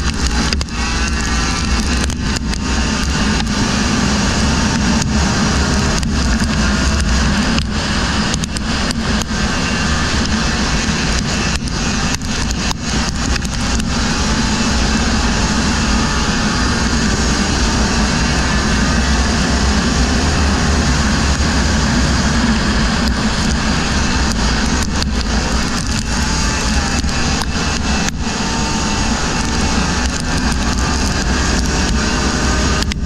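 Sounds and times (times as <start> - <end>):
race engines running hard: 0.0 - 33.0.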